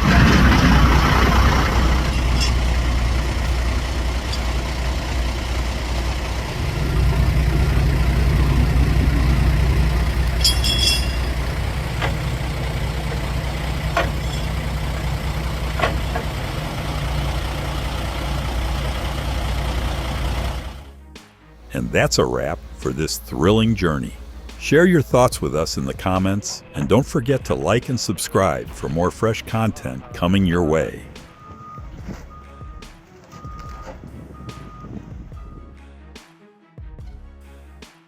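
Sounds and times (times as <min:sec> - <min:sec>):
heavy truck engine running: 0:00.0 - 0:28.0, 0:28.6 - 0:35.8.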